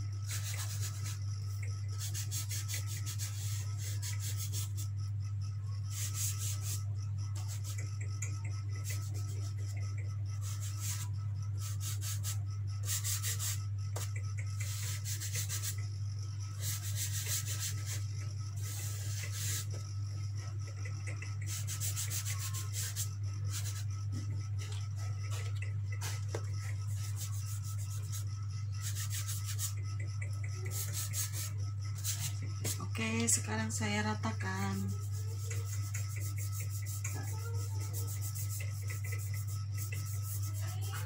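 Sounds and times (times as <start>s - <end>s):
steady low hum: 0.0s - 41.0s
pastel scratching on paper: 0.2s - 5.0s, 5.8s - 20.5s, 21.1s - 24.3s, 24.9s - 33.4s, 34.3s - 41.0s.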